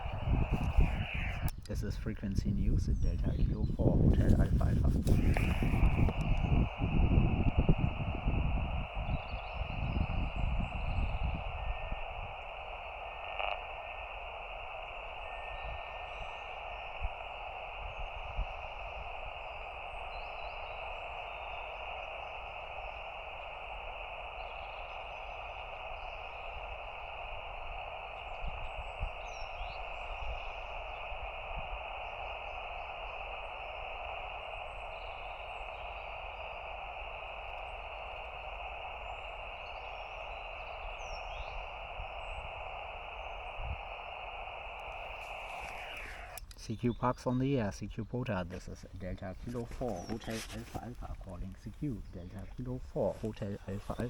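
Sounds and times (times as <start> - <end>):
faint bird chirps: 0.0 - 54.0
low outdoor rumble: 0.0 - 54.0
radio static hiss: 0.0 - 54.0.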